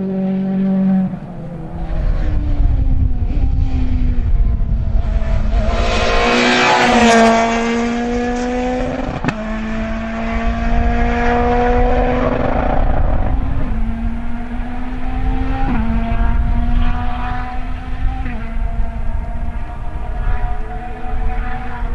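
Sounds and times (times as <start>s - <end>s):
rally car engine revving: 0.0s - 21.9s.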